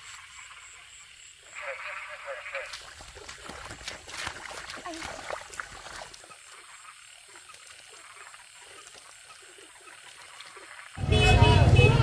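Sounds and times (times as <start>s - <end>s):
frogs croaking faintly: 0.0s - 11.3s.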